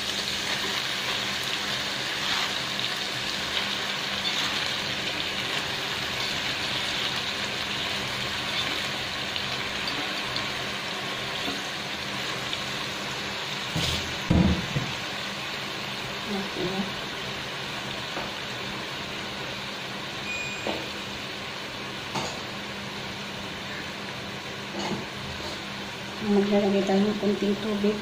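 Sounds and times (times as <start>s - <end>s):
chicken sizzling in a pot: 0.0s - 28.0s.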